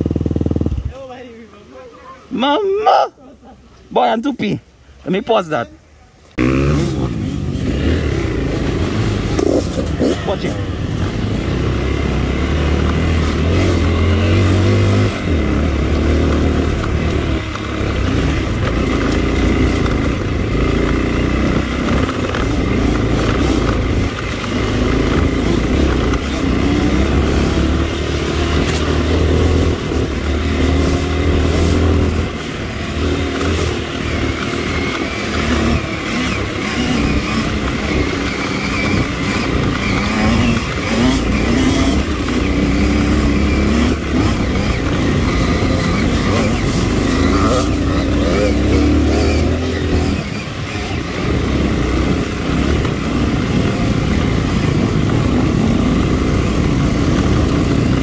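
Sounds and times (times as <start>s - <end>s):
dirt bike engine: 0.0s - 3.3s, 4.8s - 58.0s.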